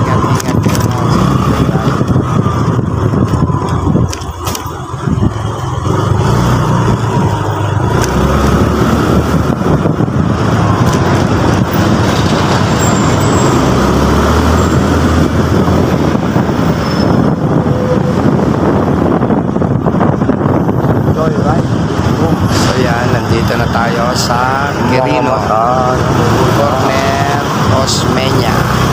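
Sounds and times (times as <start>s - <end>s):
motorcycle engine: 0.0s - 28.9s
wind rushing: 0.0s - 28.9s.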